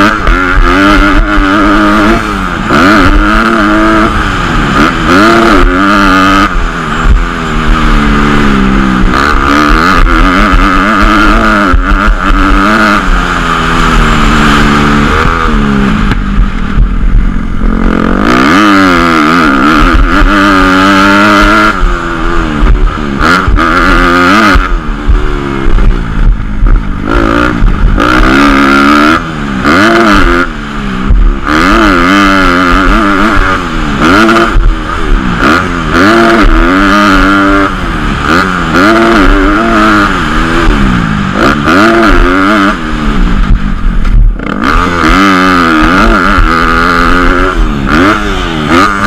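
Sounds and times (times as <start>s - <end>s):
dirt bike engine ridden hard: 0.0s - 49.0s.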